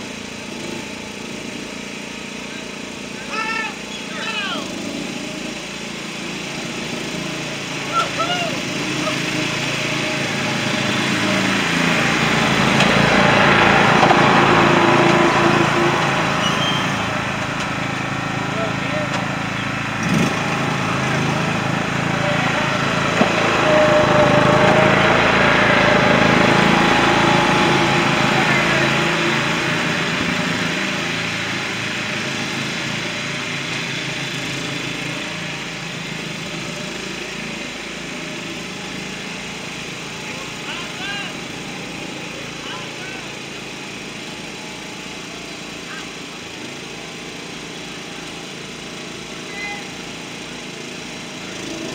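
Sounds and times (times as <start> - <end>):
riding lawn mower engines racing: 0.0 - 51.9.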